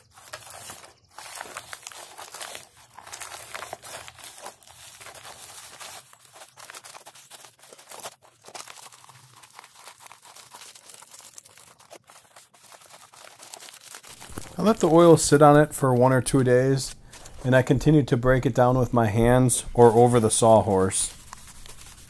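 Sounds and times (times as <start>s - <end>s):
dried hide crinkling and crackling: 0.0s - 22.0s.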